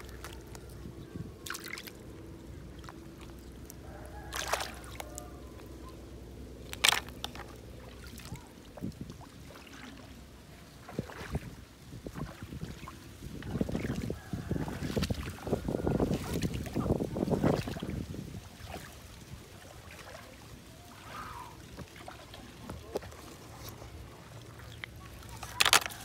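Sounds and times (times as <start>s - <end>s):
faint steady hum: 0.0s - 26.0s
water sloshing and dripping: 0.0s - 26.0s.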